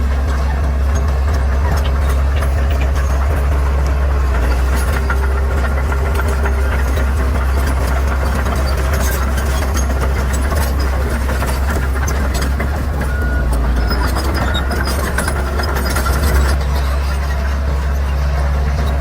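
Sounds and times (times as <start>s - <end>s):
bulldozer diesel engine drone: 0.0s - 19.0s.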